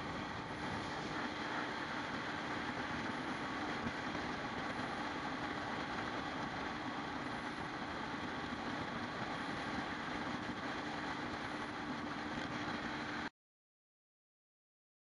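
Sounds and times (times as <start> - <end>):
boat engine humming: 0.0 - 12.9
rushing wind and water: 0.0 - 13.2.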